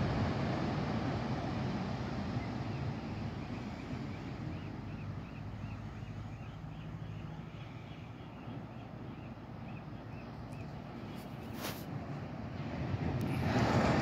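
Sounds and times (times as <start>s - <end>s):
distant surf: 0.0s - 14.0s
wind: 0.0s - 14.0s.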